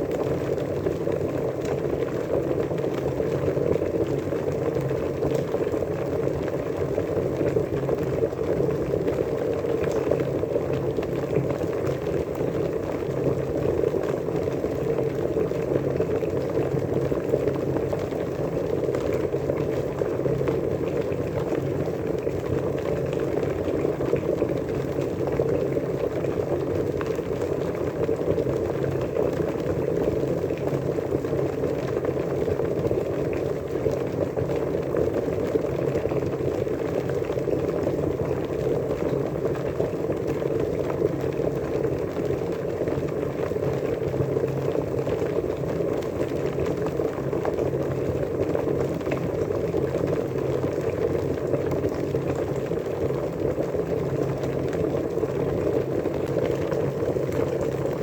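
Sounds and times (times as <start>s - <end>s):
water boiling and bubbling: 0.0s - 58.0s.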